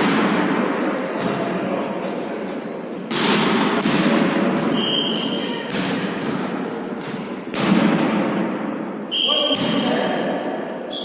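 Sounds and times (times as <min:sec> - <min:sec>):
ball thuds with echo: 0:00.0 - 0:08.6, 0:09.5 - 0:10.0
murmur of voices: 0:00.0 - 0:11.0.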